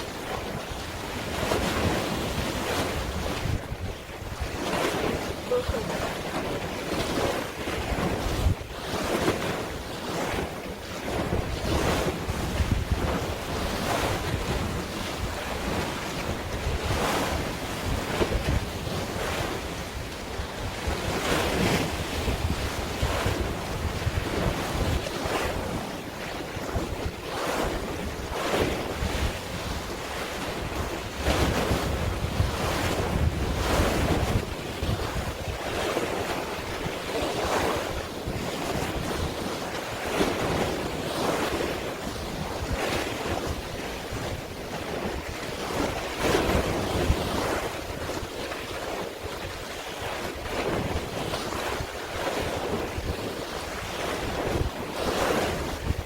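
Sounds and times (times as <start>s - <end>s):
sea waves splashing: 0.0s - 56.0s
wind buffeting microphone: 0.0s - 56.0s.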